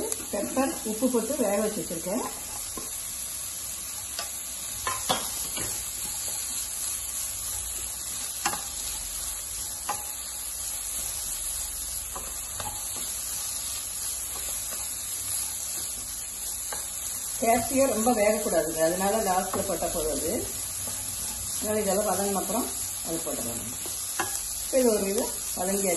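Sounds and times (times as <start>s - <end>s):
food sizzling in a pan: 0.0s - 25.9s
wooden spatula scraping a pan: 4.8s - 25.8s.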